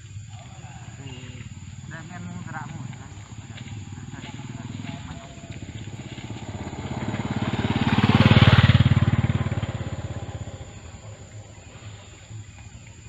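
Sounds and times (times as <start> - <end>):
vehicle engine passing by: 0.6 - 13.0.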